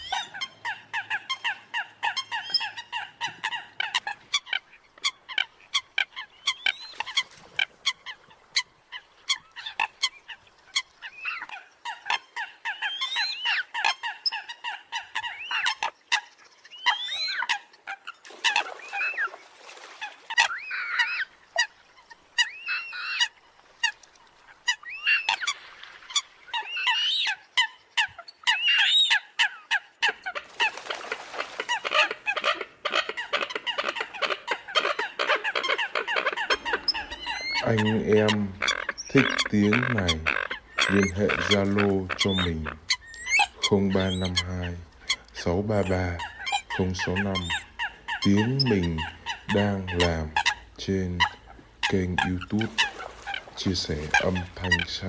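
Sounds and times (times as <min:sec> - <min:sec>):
coots calling: 0:00.0 - 0:55.0.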